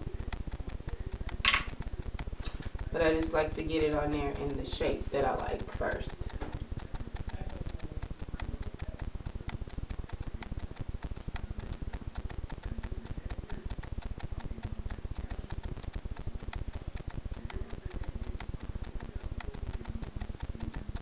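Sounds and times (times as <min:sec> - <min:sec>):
rapid ticking clicks: 0:00.0 - 0:21.0.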